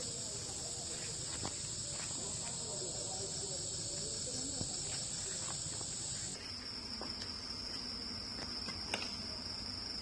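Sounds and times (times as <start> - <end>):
insects singing shrilly: 0.0 - 10.0.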